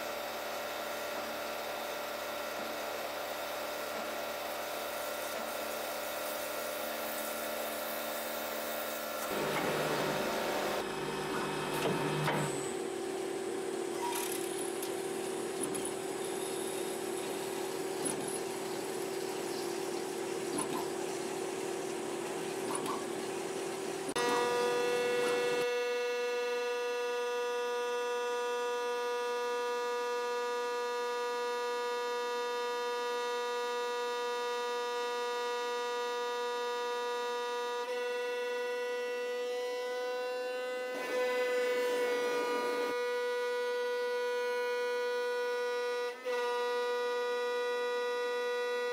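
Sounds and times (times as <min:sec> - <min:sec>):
lathe machining hum: 0:00.0 - 0:48.9.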